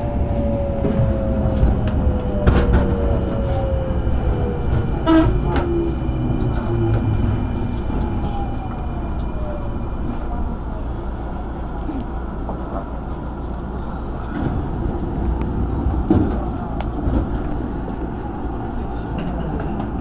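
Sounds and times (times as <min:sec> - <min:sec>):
train equipment low rumble: 0:00.0 - 0:20.0.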